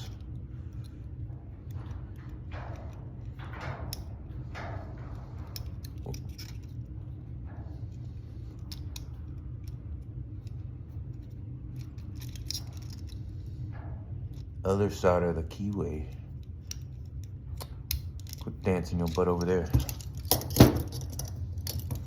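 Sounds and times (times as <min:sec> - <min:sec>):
metallic clicks of handcuffs: 0:01.6 - 0:06.9, 0:07.5 - 0:13.5, 0:14.3 - 0:22.0.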